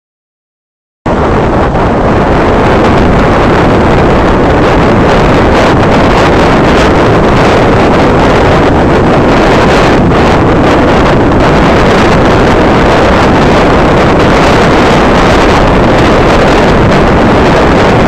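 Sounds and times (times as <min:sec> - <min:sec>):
wind buffeting microphone: 0:01.1 - 0:18.0.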